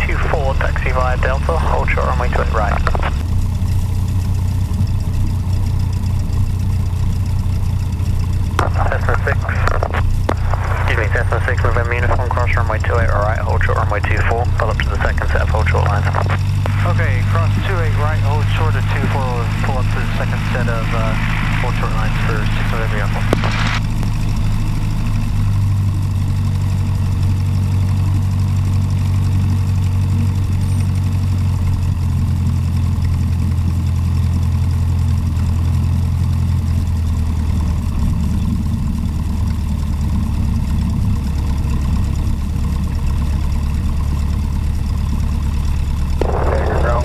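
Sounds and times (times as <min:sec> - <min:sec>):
propeller engine drone in cockpit: 0:00.0 - 0:47.0.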